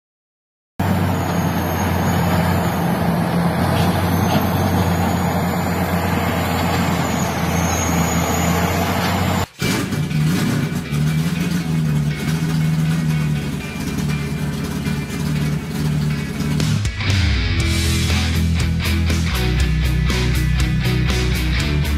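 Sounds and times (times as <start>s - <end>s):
bulldozer diesel engine droning: 0.8s - 21.9s.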